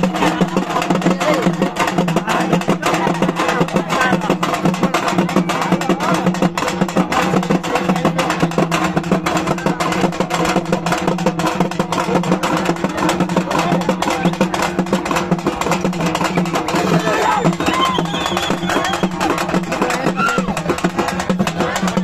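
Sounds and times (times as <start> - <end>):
fast drumming: 0.0 - 22.0.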